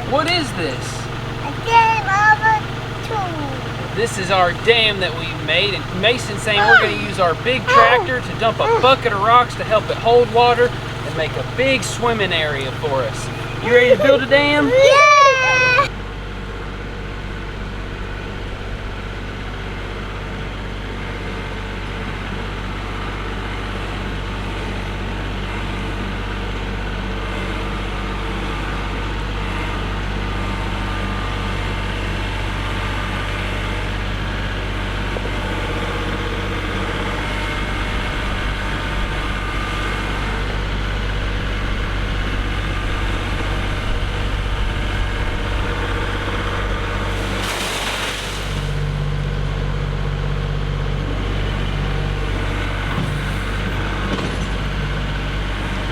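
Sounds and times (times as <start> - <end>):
tractor diesel engine running: 0.0 - 47.9, 48.7 - 55.9.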